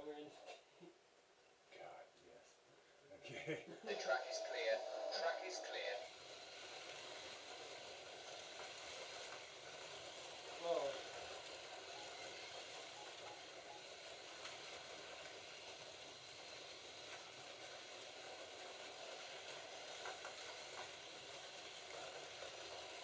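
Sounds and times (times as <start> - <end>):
slot car motors whirring: 3.9 - 23.0.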